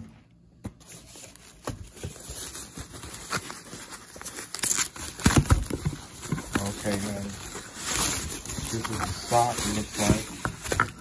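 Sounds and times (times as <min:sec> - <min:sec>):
plastic wrapping crinkling: 0:00.8 - 0:11.0.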